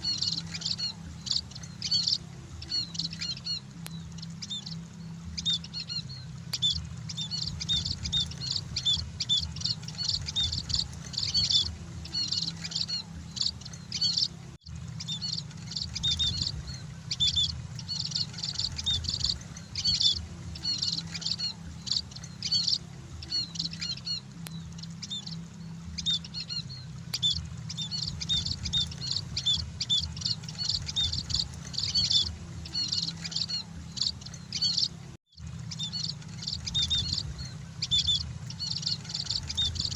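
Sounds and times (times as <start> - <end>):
flock of birds chirping: 0.0 - 39.9
steady low hum: 0.0 - 39.9.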